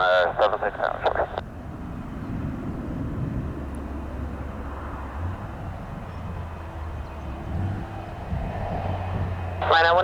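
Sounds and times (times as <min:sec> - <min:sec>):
distant jet engines rumbling: 0:00.0 - 0:10.0.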